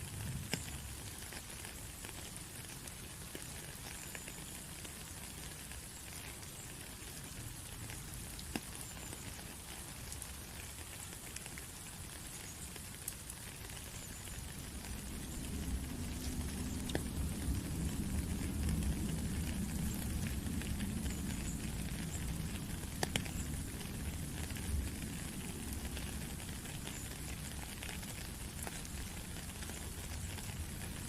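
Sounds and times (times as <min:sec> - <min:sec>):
raindrops ticking: 0:00.0 - 0:31.0
steady rain: 0:00.0 - 0:31.0.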